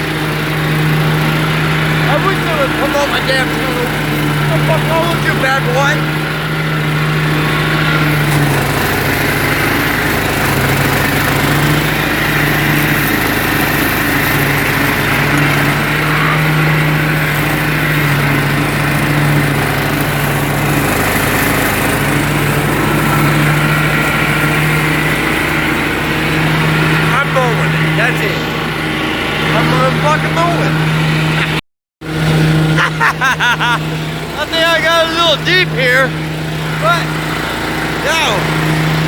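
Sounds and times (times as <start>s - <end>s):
lawn mower engine running: 0.0s - 39.0s.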